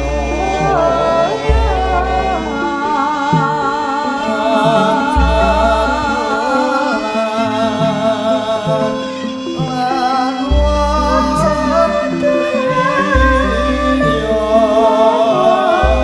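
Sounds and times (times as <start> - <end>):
metallophone notes: 0.0 - 16.0
woman singing: 0.0 - 16.0.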